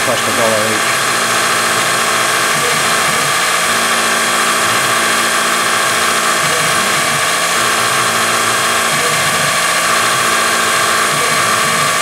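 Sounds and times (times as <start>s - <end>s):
mill spindle whine: 0.0s - 12.0s.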